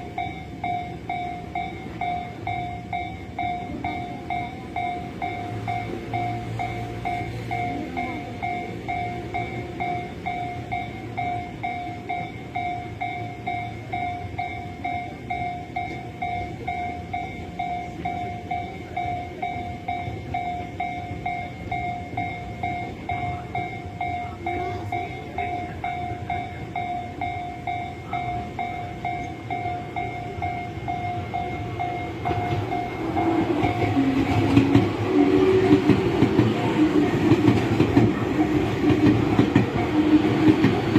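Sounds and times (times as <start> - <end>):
electric train passing: 0.0 - 40.9
level crossing warning bell: 0.0 - 40.9.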